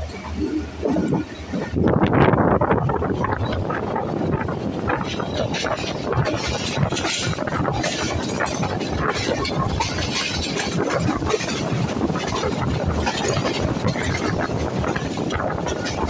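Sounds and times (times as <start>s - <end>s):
steel wheels rumbling on rails: 0.0s - 16.0s
rattling and clatter: 0.1s - 16.0s.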